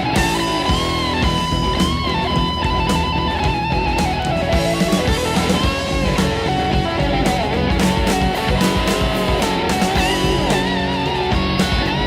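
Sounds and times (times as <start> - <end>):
gliding lead electric guitar: 0.0 - 12.0
rock drums: 0.0 - 12.0.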